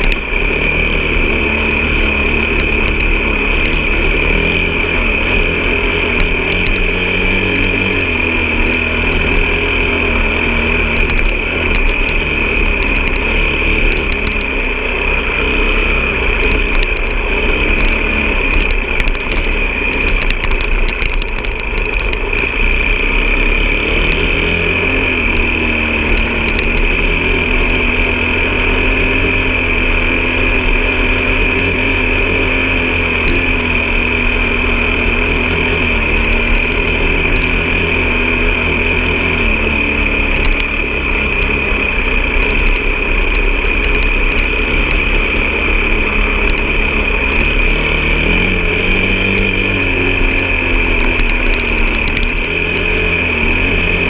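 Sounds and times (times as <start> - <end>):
high whine: 0.0 - 54.0
off-road vehicle engine: 0.0 - 54.0.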